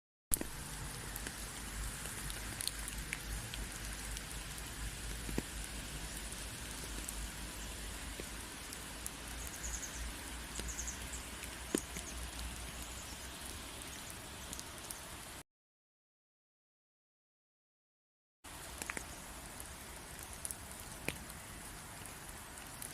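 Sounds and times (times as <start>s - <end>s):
steady rain: 0.3s - 15.4s, 18.5s - 22.9s.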